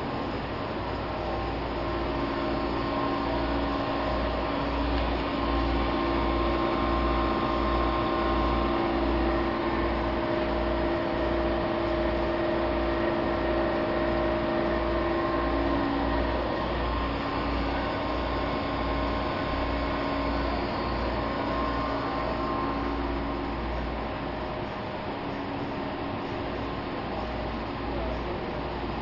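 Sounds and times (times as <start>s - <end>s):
printing press machinery running: 0.0s - 29.0s.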